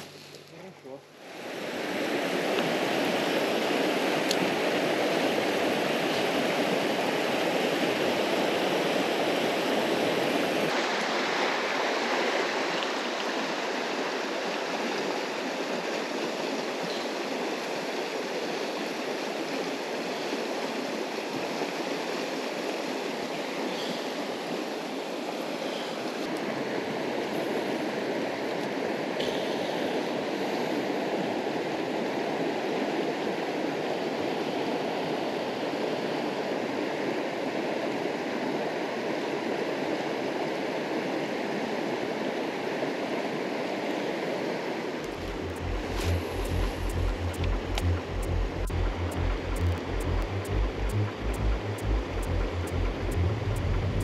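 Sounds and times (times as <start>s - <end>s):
river water rushing: 1.1s - 52.8s.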